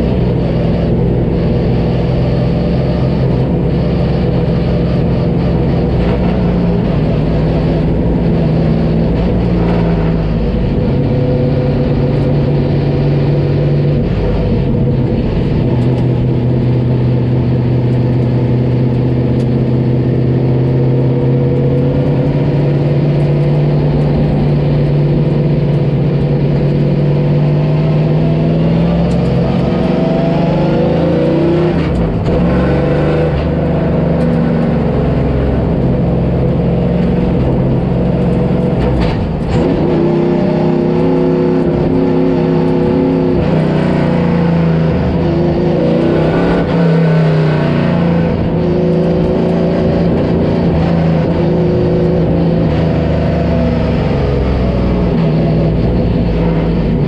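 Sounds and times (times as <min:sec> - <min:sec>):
vehicle engine running under load: 0:00.0 - 0:57.0.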